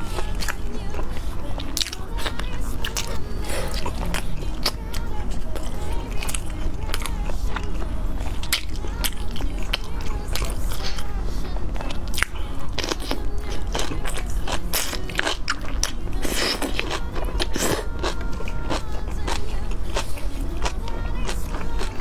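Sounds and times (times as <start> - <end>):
crunching and chewing: 0.0 - 22.0
steady low hum: 0.0 - 22.0.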